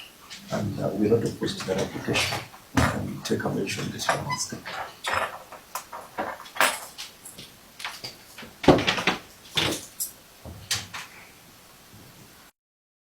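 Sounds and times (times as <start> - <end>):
sharp knocks and bumps: 0.4 - 11.1.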